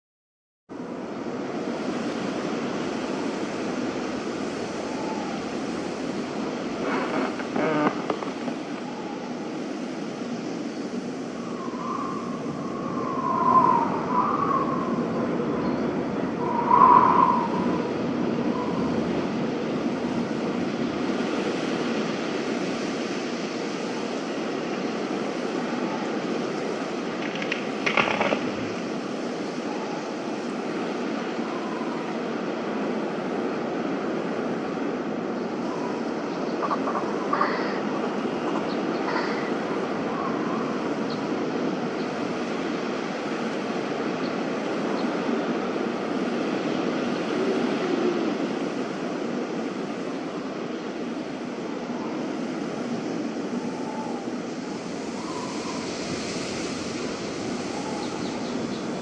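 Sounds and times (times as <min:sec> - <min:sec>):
high wind whistle: 0:00.7 - 0:27.1, 0:28.5 - 0:59.0
wind blowing: 0:00.7 - 0:59.0
steady rushing noise: 0:00.8 - 0:59.0.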